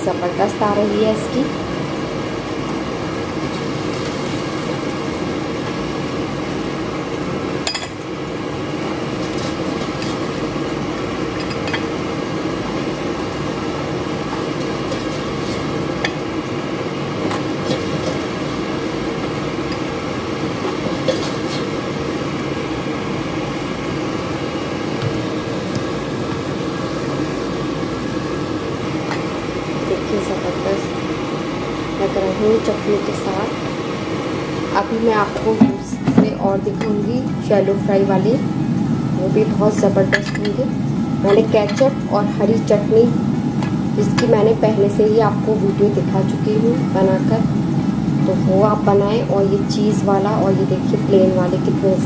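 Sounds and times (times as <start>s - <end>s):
fan hum: 0.0s - 52.0s.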